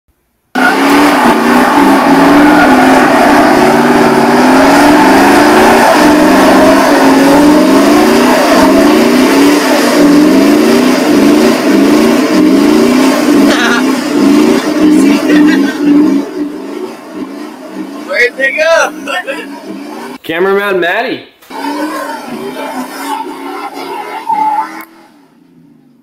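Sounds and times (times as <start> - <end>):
engine revving during burnout: 0.5 - 20.2, 21.4 - 26.0
tyres spinning: 0.6 - 20.3, 21.4 - 26.0.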